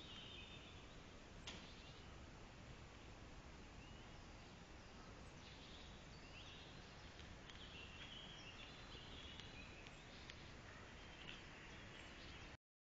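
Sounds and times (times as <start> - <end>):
distant birds chirping: 0.0 - 12.6
faint steady hiss: 0.0 - 12.6.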